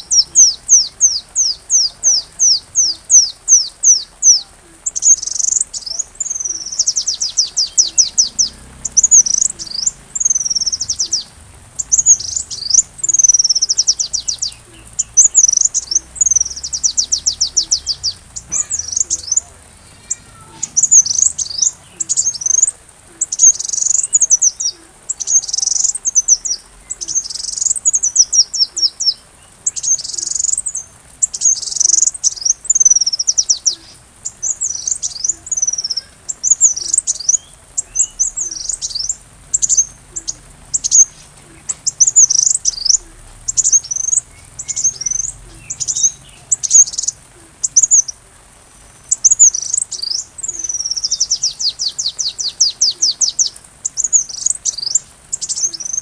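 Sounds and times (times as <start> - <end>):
bird chirping and trilling: 0.0 - 48.2, 48.8 - 56.0.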